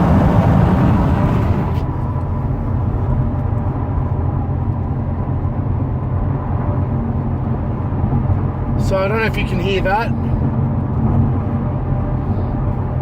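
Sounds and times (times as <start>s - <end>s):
tyre road rumble: 0.0s - 13.0s.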